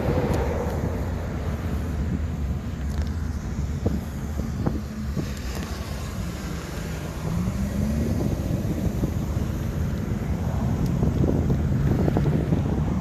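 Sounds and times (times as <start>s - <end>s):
motorway traffic passing: 0.0s - 13.0s
wind buffeting microphone: 0.0s - 13.0s.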